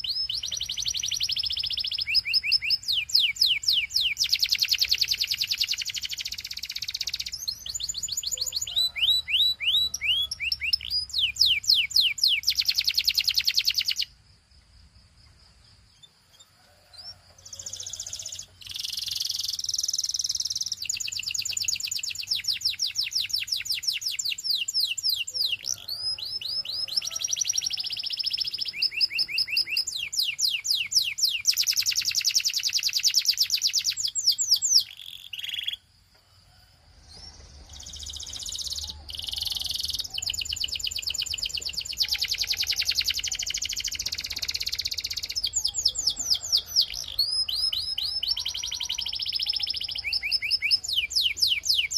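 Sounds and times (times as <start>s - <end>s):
canary singing trills: 0.0s - 14.2s, 15.9s - 35.9s, 37.0s - 51.9s.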